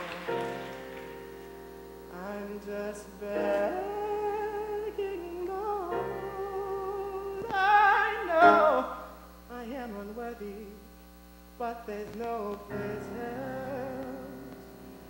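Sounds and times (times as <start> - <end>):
person singing: 0.0 - 1.0, 2.1 - 10.8, 11.6 - 14.7.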